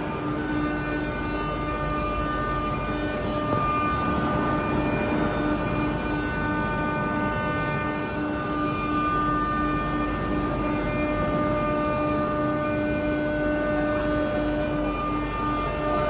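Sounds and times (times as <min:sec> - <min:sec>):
constant rushing noise: 0:00.0 - 0:16.0
drilling machine whine: 0:00.0 - 0:16.0.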